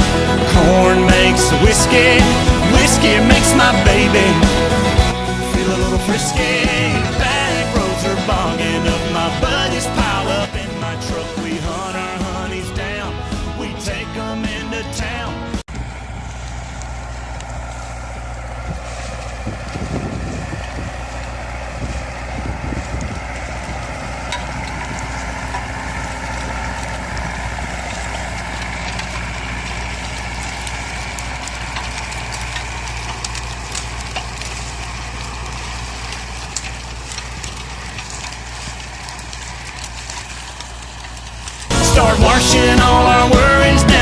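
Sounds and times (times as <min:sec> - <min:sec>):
farm vehicle engine running: 0:00.0 - 0:44.0.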